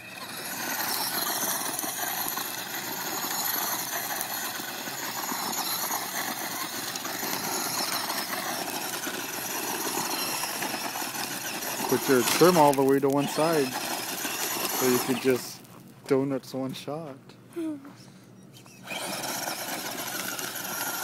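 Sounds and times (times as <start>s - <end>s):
toy truck motor whining: 0.0s - 15.7s, 17.6s - 21.0s
tyres crunching gravel: 0.0s - 17.2s, 19.0s - 21.0s.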